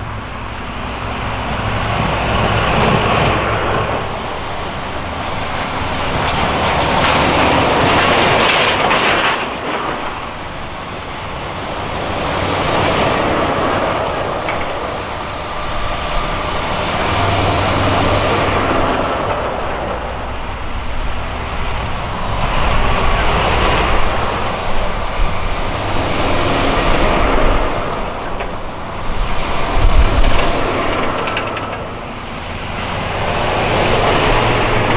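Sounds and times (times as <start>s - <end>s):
military trucks driving past: 0.0s - 34.9s.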